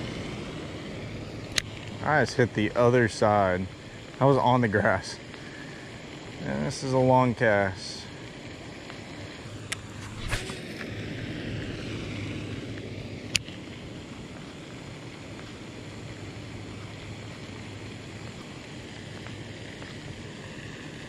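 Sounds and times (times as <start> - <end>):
line hissing off spool: 0.0 - 21.0.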